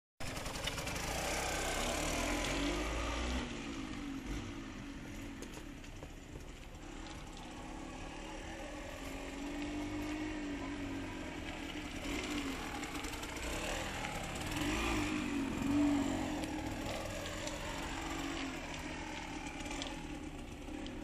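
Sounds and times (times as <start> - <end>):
motorcycle engine: 0.2 - 21.0.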